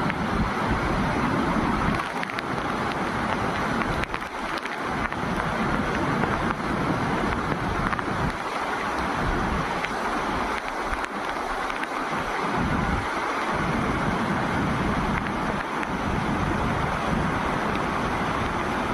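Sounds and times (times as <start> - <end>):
river rushing: 0.0 - 18.9
wind buffeting microphone: 0.0 - 18.9.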